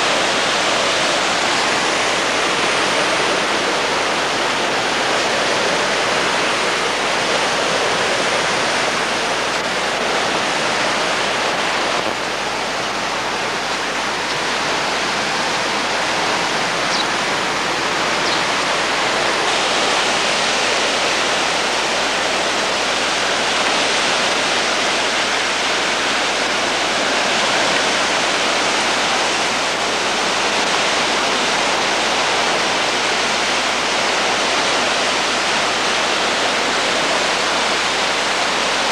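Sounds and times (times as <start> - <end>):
flood water rushing: 0.0 - 38.9.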